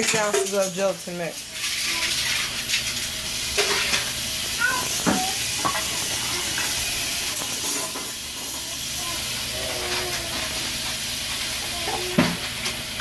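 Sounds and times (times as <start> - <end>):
gas burner hissing: 0.0 - 13.0.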